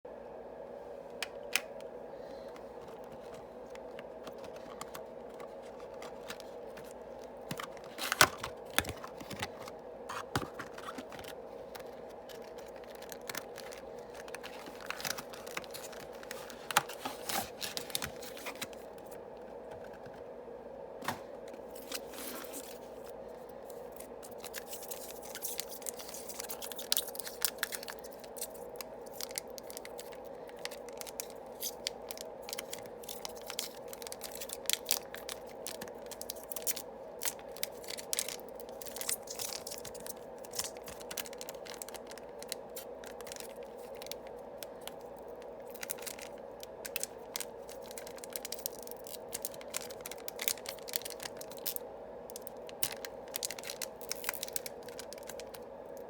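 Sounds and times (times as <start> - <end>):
steady low hum: 0.1 - 56.0
foil wrappers crinkling and tearing: 2.3 - 19.2, 21.5 - 56.0.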